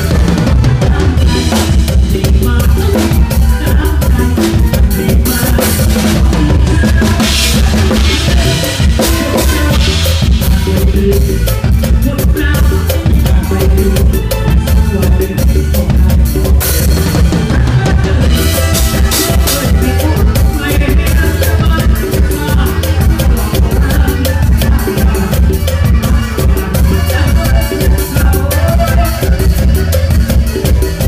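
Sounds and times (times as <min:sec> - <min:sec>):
band playing along: 0:00.0 - 0:31.0
drum kit playing fast groove: 0:00.0 - 0:31.0.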